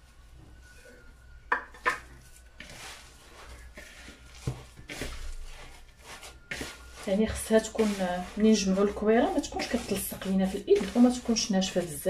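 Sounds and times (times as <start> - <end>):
hands rubbing dough: 1.8 - 12.0.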